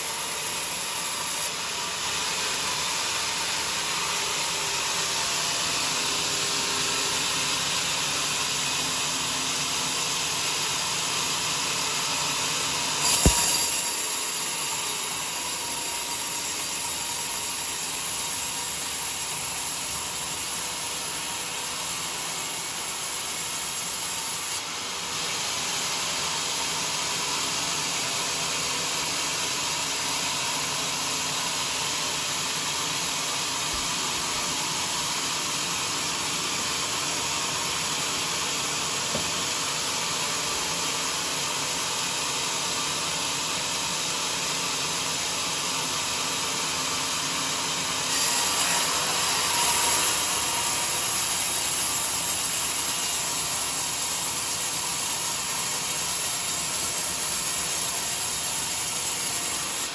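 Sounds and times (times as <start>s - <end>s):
saw blade cutting log: 0.0s - 28.6s, 30.0s - 42.9s, 45.8s - 59.9s.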